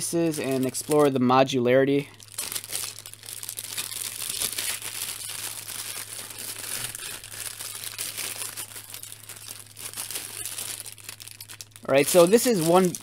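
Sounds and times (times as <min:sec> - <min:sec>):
plastic bags crinkling: 0:00.0 - 0:01.2, 0:02.0 - 0:13.0.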